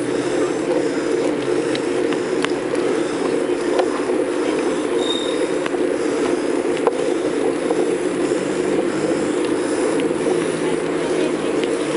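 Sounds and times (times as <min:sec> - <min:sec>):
bike road noise: 0:00.0 - 0:11.9.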